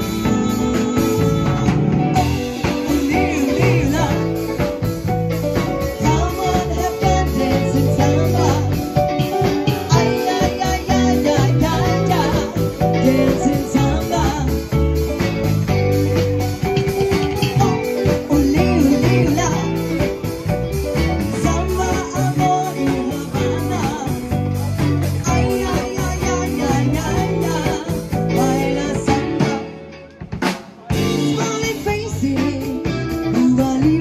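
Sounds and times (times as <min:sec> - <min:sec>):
woman singing: 0:00.0 - 0:14.8, 0:17.4 - 0:20.4, 0:21.0 - 0:29.9, 0:31.1 - 0:34.0
bass guitar: 0:00.0 - 0:34.0
drum kit: 0:00.0 - 0:34.0
electric guitar: 0:00.0 - 0:34.0.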